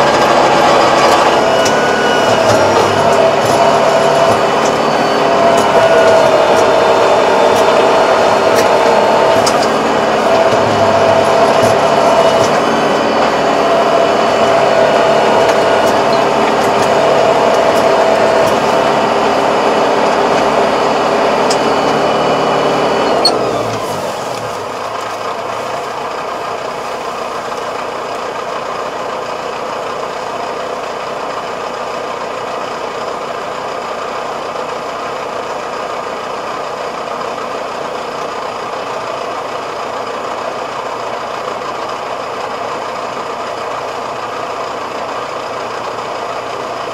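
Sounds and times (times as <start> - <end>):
tractor engine revving and idling: 0.0 - 46.9.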